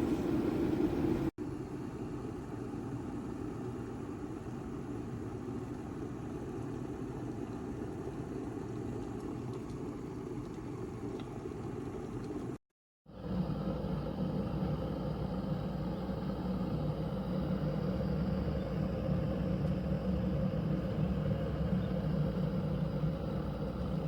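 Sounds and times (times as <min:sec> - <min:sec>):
electric kettle heating water: 0:00.0 - 0:24.0.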